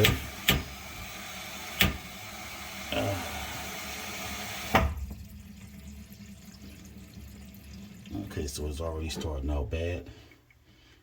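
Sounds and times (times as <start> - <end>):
tap water running into sink: 0.0 - 9.9.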